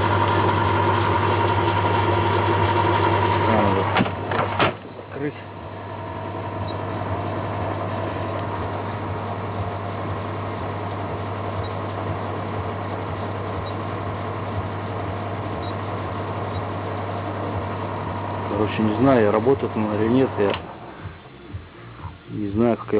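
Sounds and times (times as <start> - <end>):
microwave oven humming: 0.0 - 22.9.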